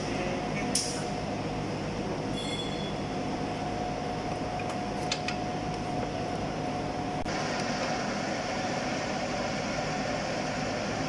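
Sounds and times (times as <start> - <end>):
workshop machinery hum: 0.0 - 11.0.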